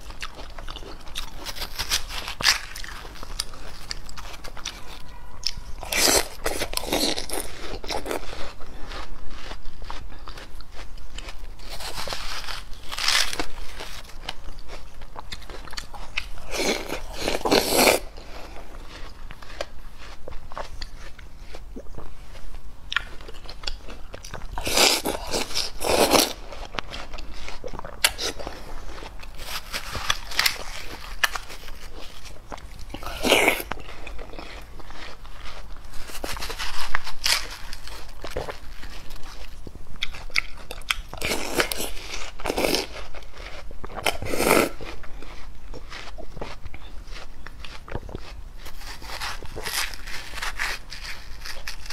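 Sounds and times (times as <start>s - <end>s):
wet crunching bites and chewing: 0.0s - 51.9s.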